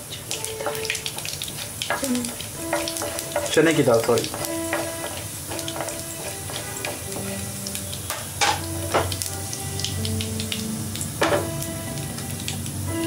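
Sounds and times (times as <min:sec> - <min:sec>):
soft background music: 0:00.0 - 0:13.0
spices sizzling and crackling in oil: 0:00.0 - 0:13.0.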